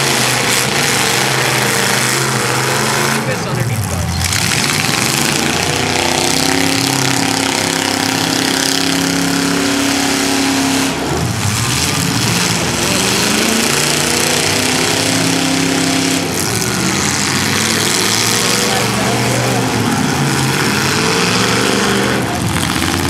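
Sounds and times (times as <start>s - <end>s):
car engines revving loudly: 0.0s - 23.0s.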